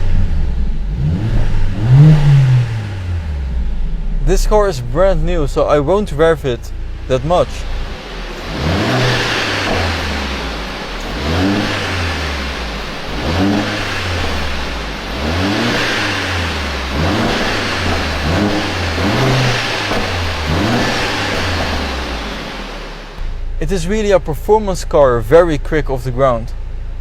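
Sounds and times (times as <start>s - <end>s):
car engine throttle blips: 0.0s - 27.0s.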